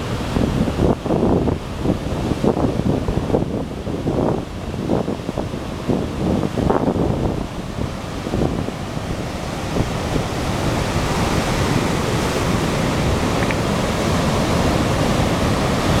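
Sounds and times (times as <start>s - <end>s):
surf breaking over rocks: 0.0s - 16.0s
wind rumbling on microphone: 0.0s - 16.0s.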